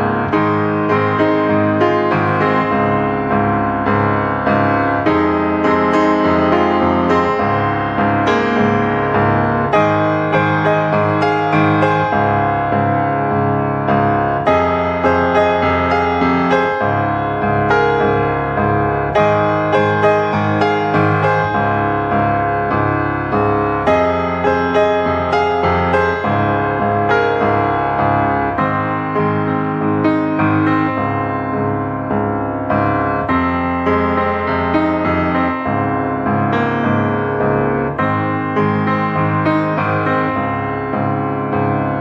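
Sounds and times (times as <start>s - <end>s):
piano music: 0.0s - 42.0s.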